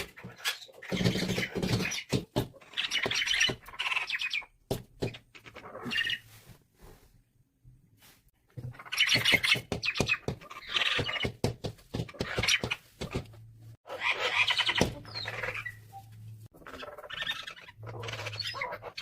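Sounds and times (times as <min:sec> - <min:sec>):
small birds chirping: 0:00.0 - 0:06.4, 0:08.5 - 0:19.0.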